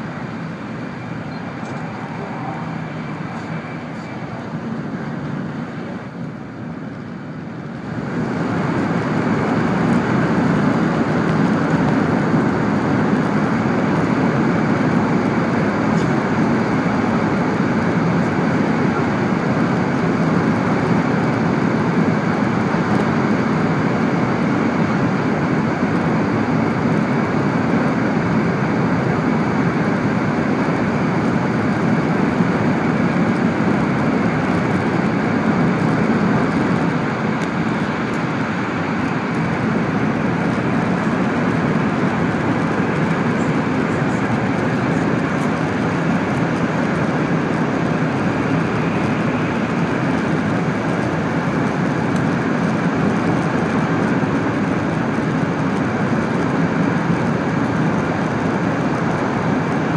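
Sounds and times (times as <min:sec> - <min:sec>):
train rumbling at speed: 0:00.0 - 0:59.9.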